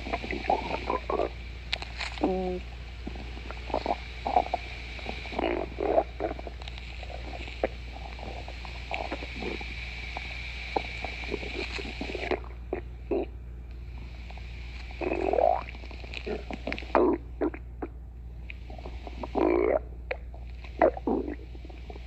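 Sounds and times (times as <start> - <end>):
stomach squeal: 0.0 - 13.4, 14.0 - 22.0
stomach gurgling and rumbling: 0.0 - 22.0.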